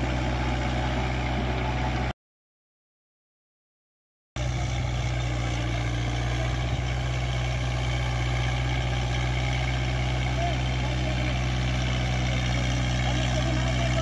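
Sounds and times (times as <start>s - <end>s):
tractor diesel engine droning: 0.0s - 2.1s, 4.4s - 14.0s.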